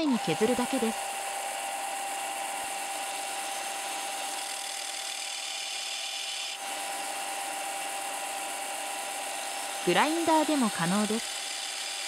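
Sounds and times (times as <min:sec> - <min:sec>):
belt sander running: 0:00.0 - 0:12.0.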